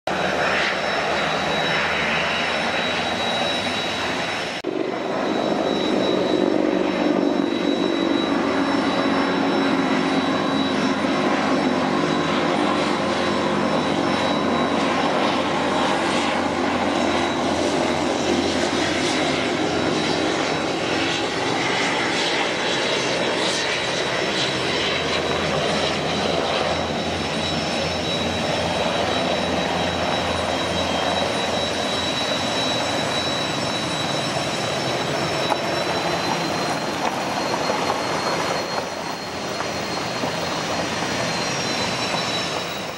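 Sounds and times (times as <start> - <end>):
helicopter engines and rotors: 0.0 - 42.9
thin steady whine: 0.1 - 42.9.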